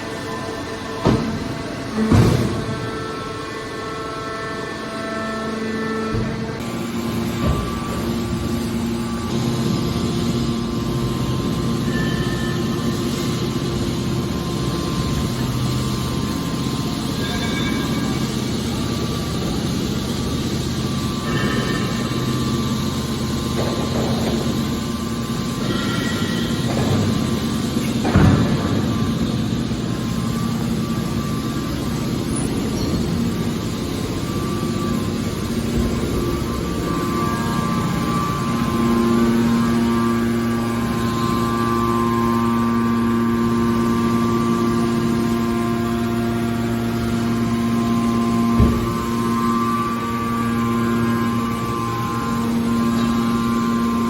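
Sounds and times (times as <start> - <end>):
hydraulic baler humming: 0.0 - 54.0.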